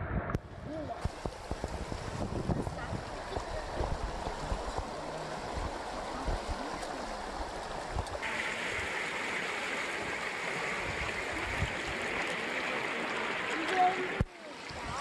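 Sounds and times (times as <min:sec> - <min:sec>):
stream water rushing over rocks: 0:00.4 - 0:15.0.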